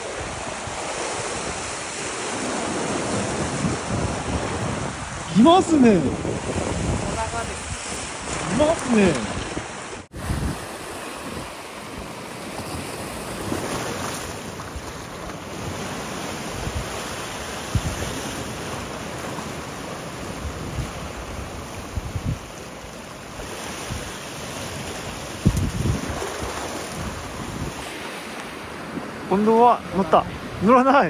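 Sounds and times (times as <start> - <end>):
wind buffeting microphone: 0.0 - 30.7
sea surf washing over rocks: 0.0 - 31.0.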